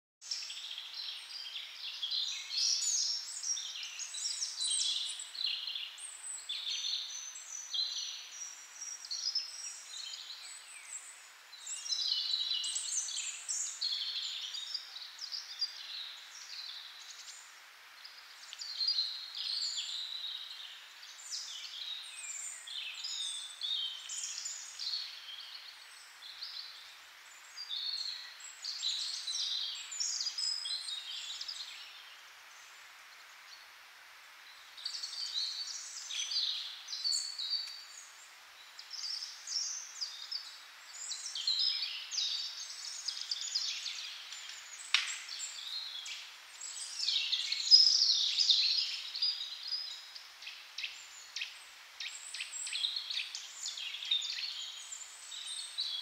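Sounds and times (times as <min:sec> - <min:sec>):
birds chirping and twittering: 0:00.2 - 0:56.0.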